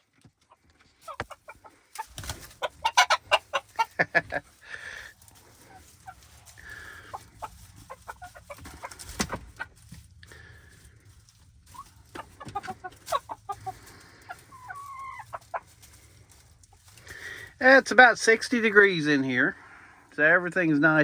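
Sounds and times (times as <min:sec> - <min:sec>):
chickens clucking and chirping: 0:00.1 - 0:20.2.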